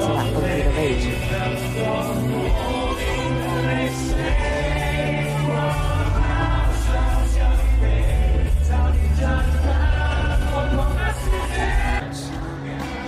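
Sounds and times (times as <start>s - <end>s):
bass: 0.0s - 13.0s
crowd singing along: 0.0s - 13.0s.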